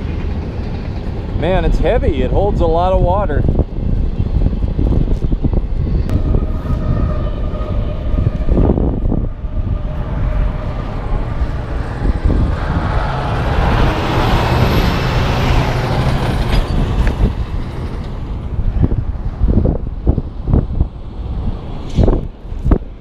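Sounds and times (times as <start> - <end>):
heavy trucks passing: 0.0 - 23.0.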